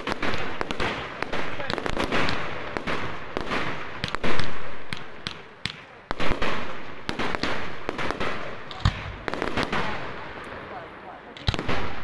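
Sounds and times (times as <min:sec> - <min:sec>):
rapid small firework cracks: 0:00.0 - 0:12.0.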